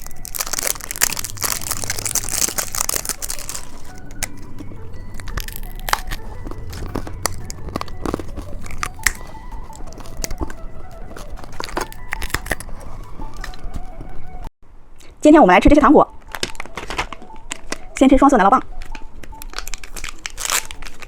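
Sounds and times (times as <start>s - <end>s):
plastic wrapper crinkling: 0.0s - 14.0s, 16.1s - 18.0s, 18.6s - 21.0s
candy and packaging clicking: 0.0s - 14.3s, 16.1s - 21.0s.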